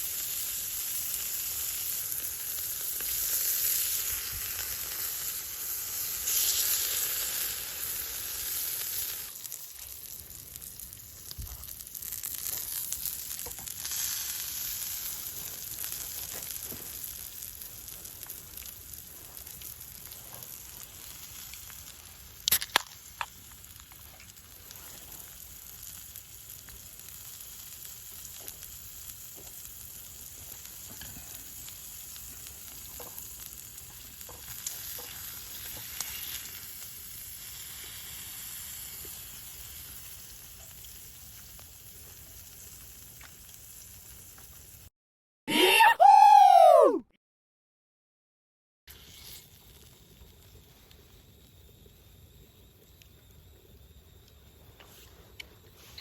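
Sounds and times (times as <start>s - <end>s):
food sizzling: 0.0s - 44.9s.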